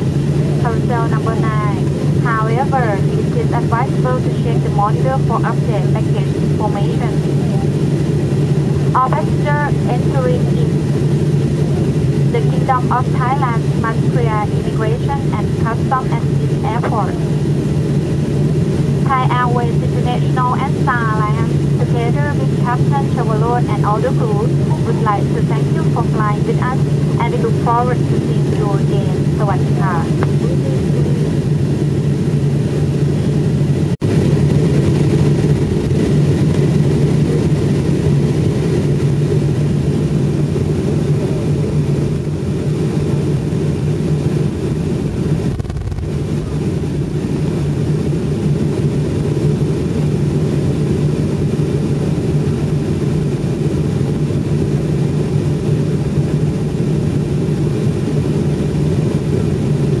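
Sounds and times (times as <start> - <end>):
jet engines and air conditioning hum: 0.0 - 60.0.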